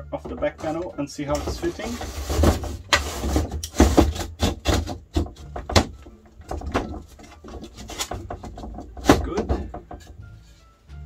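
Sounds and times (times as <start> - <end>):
wooden knocks: 0.1 - 10.2.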